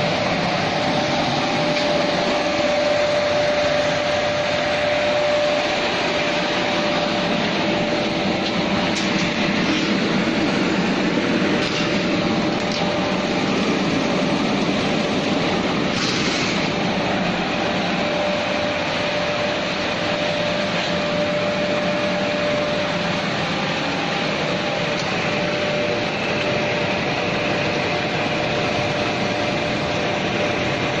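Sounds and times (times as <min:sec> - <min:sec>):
glass washing machine running: 0:00.0 - 0:31.0.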